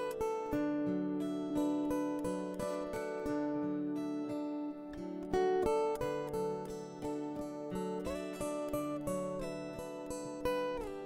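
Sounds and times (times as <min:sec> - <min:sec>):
calm acoustic guitar music: 0:00.0 - 0:11.0.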